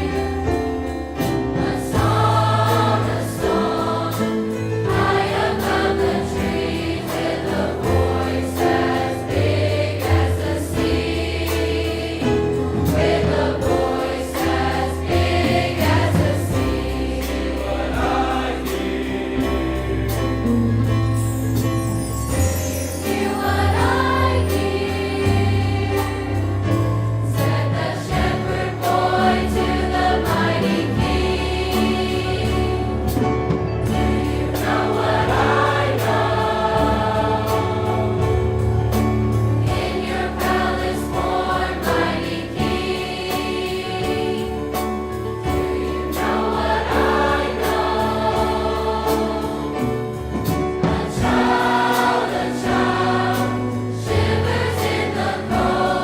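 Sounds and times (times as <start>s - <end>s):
large choir singing: 0.0s - 56.0s
steady percussive beat: 0.0s - 56.0s.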